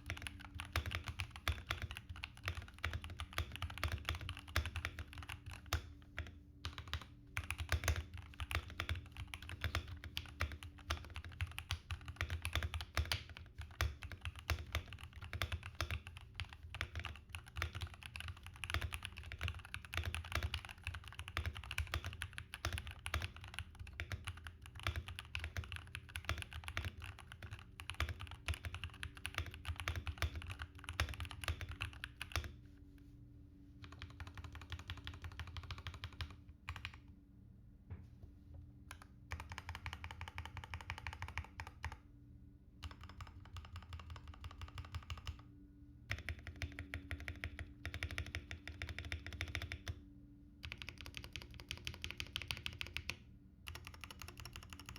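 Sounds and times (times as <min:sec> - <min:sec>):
mechanical keyboard typing: 0:00.0 - 0:32.5, 0:33.8 - 0:37.0, 0:38.9 - 0:42.0, 0:42.8 - 0:45.4, 0:46.1 - 0:50.0, 0:50.6 - 0:54.9.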